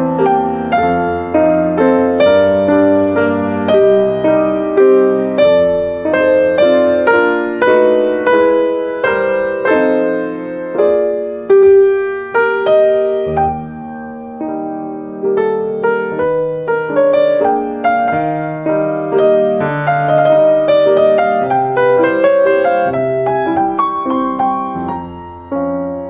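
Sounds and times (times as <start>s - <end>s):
gentle solo piano: 0.0s - 26.0s.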